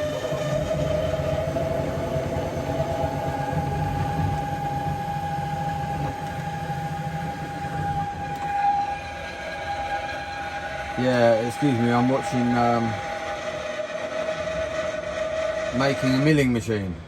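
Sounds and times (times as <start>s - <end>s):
low pulsing hum: 0.0s - 17.0s
printer motors whining: 0.0s - 17.0s.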